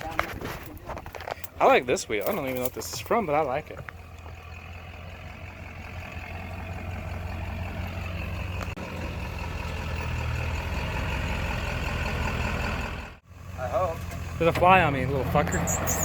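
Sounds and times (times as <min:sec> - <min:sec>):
heavy vehicle engine idling: 0:01.2 - 0:16.0.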